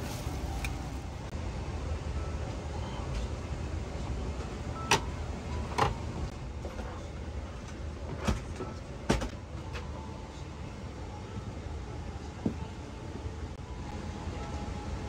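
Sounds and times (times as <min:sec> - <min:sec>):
low cabin hum: 0:00.0 - 0:15.0.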